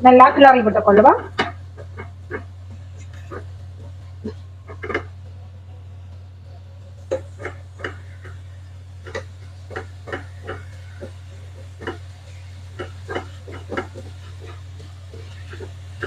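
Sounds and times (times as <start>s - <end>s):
steady low hum: 0.0s - 16.0s
spatula scraping frying pan: 1.2s - 5.2s, 7.0s - 16.0s.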